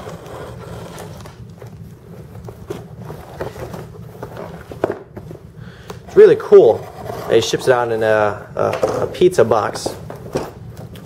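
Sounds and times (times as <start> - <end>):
hand handling cardboard box: 0.0 - 11.0
steady low hum: 0.0 - 11.0.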